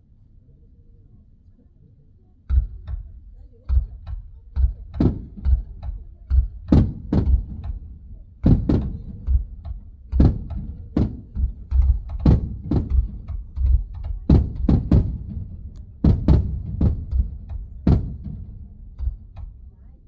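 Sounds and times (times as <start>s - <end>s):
fireworks booming: 2.6s - 19.7s.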